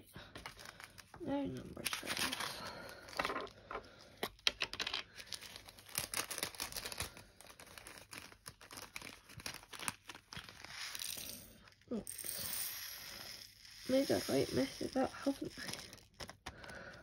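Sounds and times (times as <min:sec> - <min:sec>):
plastic bags crinkling: 0:00.2 - 0:12.0, 0:13.5 - 0:17.0.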